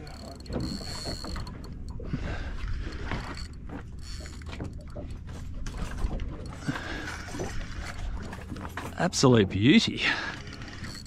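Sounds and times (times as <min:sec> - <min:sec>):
fishing reel clicking: 0:00.0 - 0:08.4, 0:09.9 - 0:11.0
fishing rod knocks: 0:00.0 - 0:09.0
steady low rumble: 0:00.0 - 0:11.0.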